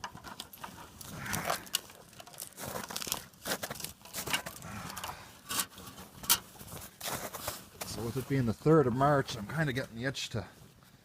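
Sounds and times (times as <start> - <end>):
crinkling and crunching: 0.0 - 9.9.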